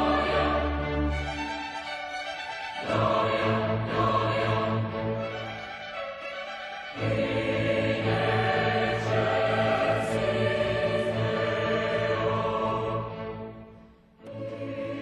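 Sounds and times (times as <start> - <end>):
choir singing: 0.0 - 15.0
string orchestra: 0.0 - 15.0.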